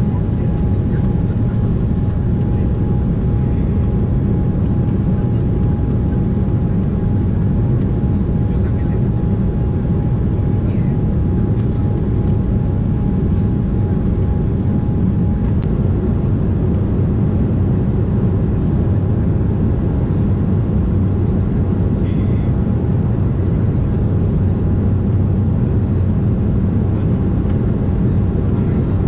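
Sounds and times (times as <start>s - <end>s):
jet airliner cabin drone: 0.0s - 29.0s.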